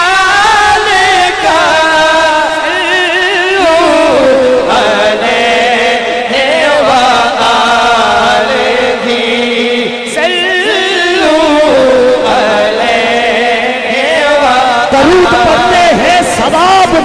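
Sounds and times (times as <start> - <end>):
men chanting through microphones: 0.0 - 17.0.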